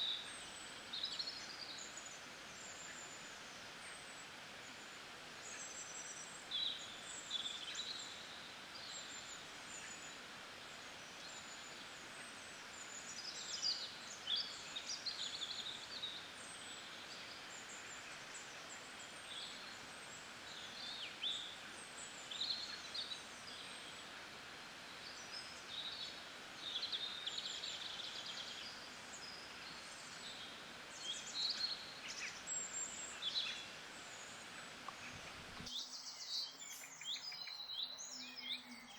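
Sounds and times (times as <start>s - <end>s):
steady hiss: 0.0s - 38.1s
small birds chirping: 0.0s - 38.9s.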